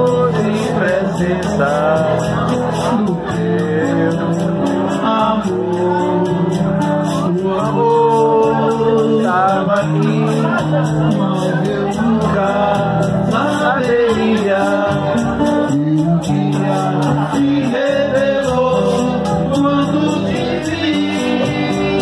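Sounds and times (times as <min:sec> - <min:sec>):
acoustic guitar playing: 0:00.0 - 0:22.0
man singing into a microphone: 0:00.0 - 0:22.0.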